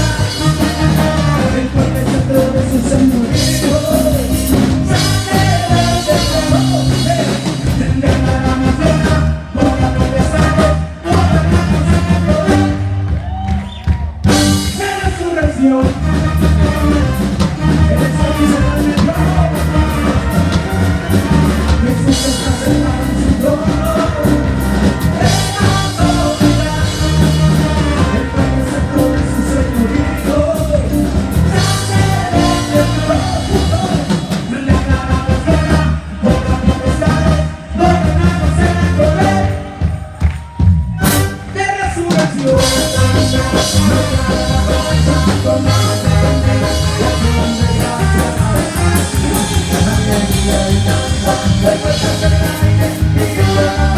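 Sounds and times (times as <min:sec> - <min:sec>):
person singing: 0:00.0 - 0:13.2, 0:14.3 - 0:53.9
drum kit: 0:00.0 - 0:53.9
live band playing upbeat music: 0:00.0 - 0:53.9.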